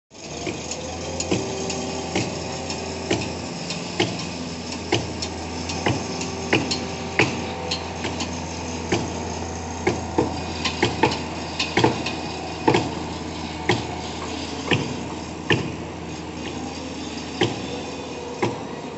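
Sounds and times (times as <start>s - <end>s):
heavy machinery engines humming: 0.1s - 18.9s
hammering knocks and clanks: 0.3s - 18.9s.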